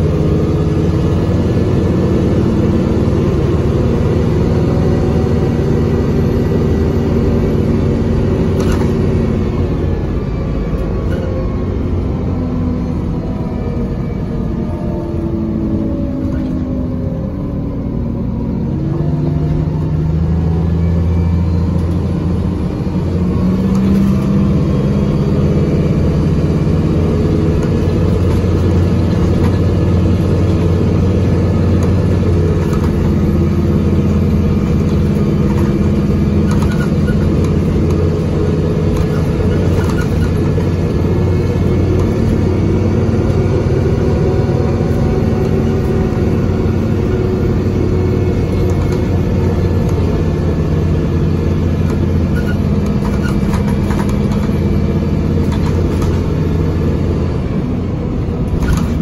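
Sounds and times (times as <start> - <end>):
bus diesel engine revving: 0.0 - 59.0.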